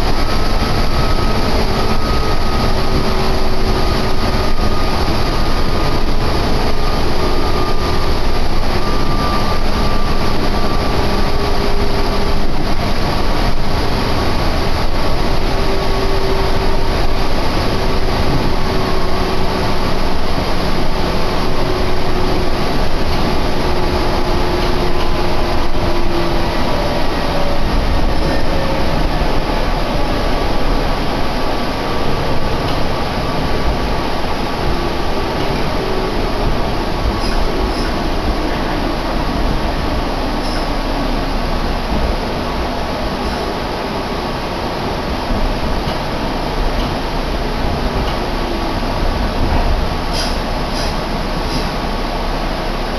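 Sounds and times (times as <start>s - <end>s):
train wheels rumbling: 0.0s - 52.9s.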